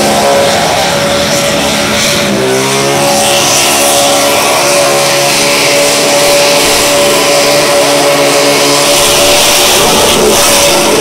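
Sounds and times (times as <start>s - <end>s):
engine screaming at high revs: 0.0s - 11.0s.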